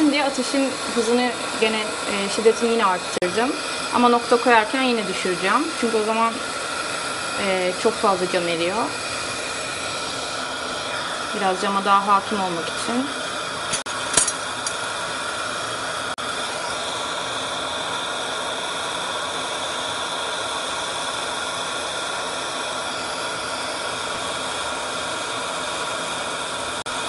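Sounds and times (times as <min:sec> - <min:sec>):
torch flame hissing: 0:00.0 - 0:27.0.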